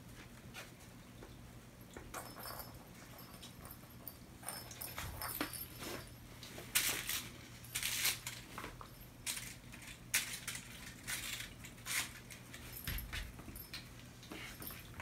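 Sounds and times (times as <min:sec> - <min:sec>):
kittens rustling and scrabbling: 0:00.0 - 0:15.0.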